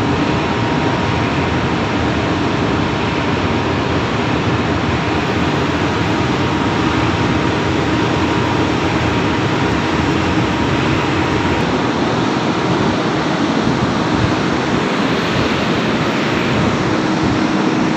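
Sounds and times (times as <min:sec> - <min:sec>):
faint steady hum: 0:00.0 - 0:17.9
heavy machinery running: 0:00.0 - 0:17.9.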